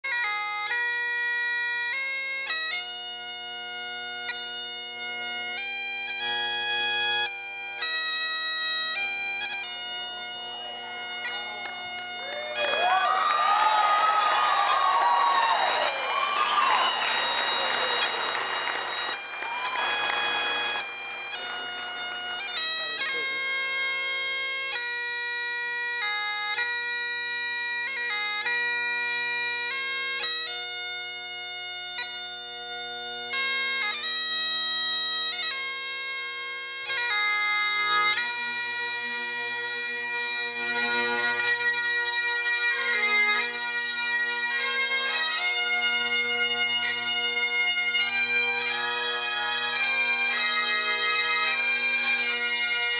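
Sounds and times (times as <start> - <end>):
bagpipe chanter melody: 0.0 - 52.9
bagpipe drones humming: 0.1 - 52.9.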